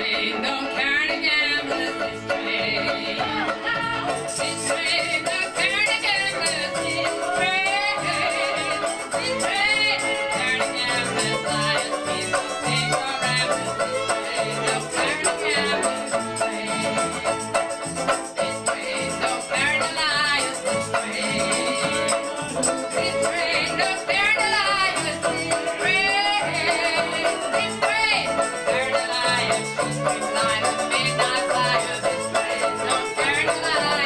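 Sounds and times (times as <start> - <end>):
button accordion: 0.0 - 34.0
fiddle: 0.0 - 34.0
ukulele: 0.0 - 34.0
women singing together: 0.0 - 34.0.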